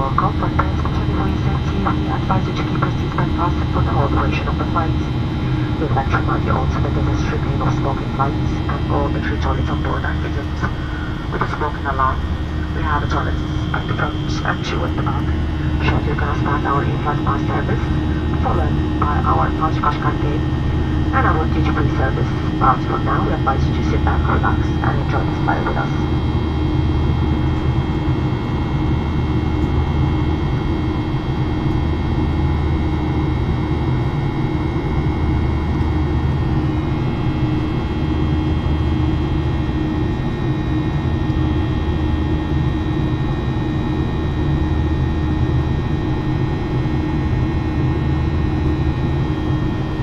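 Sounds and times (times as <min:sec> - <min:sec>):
jet engines rumbling in cabin: 0:00.0 - 0:50.0.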